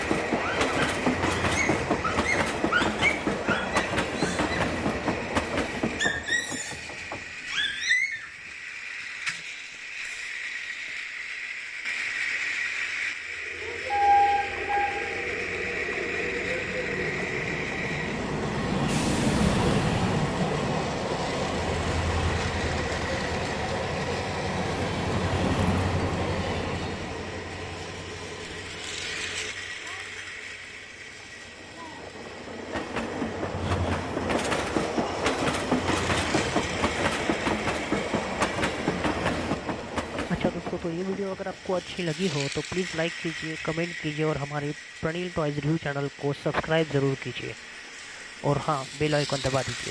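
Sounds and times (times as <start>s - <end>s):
toy train whirring: 0.0s - 18.1s, 27.4s - 49.9s.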